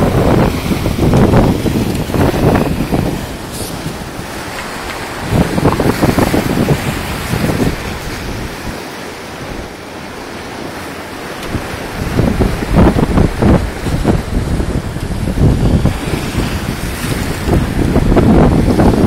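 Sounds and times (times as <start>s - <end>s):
wind buffeting microphone: 0.0s - 9.7s, 11.3s - 19.0s.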